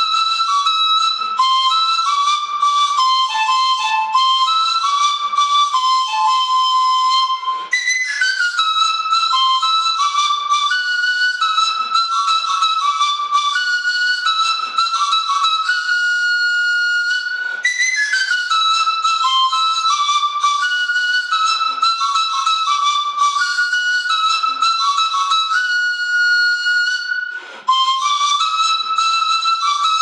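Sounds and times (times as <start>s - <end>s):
panpipe melody: 0.0s - 30.0s.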